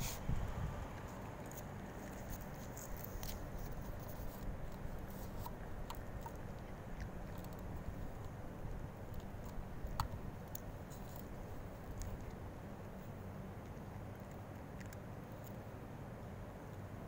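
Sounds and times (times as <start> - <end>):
low background rumble: 0.0 - 17.0
cat crunching dry kibble: 0.1 - 16.2.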